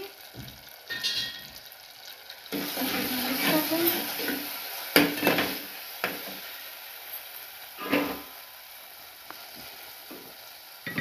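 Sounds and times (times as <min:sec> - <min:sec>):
low sizzle: 0:00.0 - 0:11.0.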